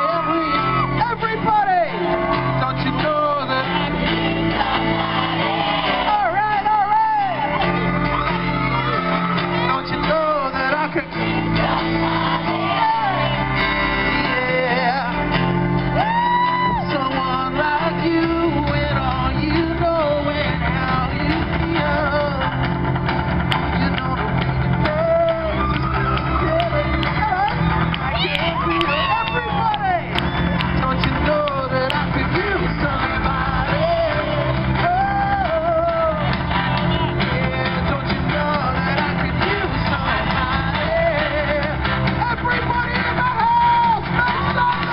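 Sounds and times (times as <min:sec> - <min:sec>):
bass guitar: 0:00.0 - 0:44.9
electric guitar: 0:00.0 - 0:44.9
rock band playing: 0:00.0 - 0:44.9
singer's vocal line: 0:00.0 - 0:44.9.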